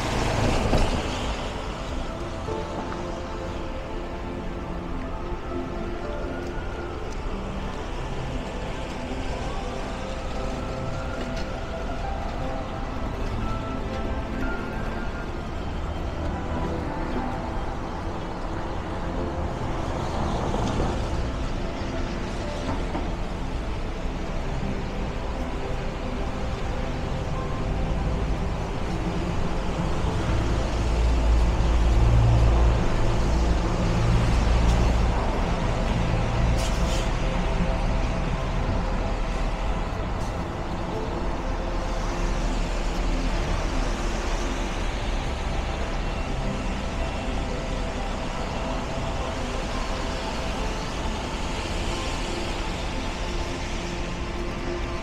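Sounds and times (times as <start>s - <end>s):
city street traffic: 0.0s - 55.0s
heavy vehicle engine rumbling: 0.0s - 55.0s.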